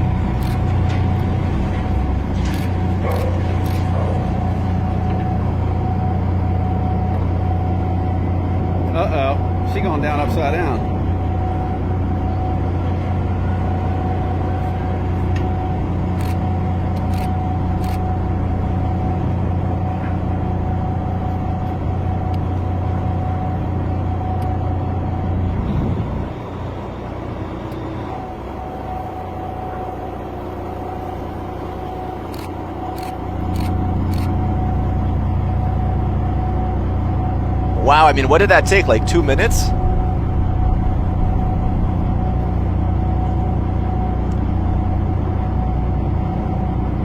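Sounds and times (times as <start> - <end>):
low engine hum: 0.0 - 47.0.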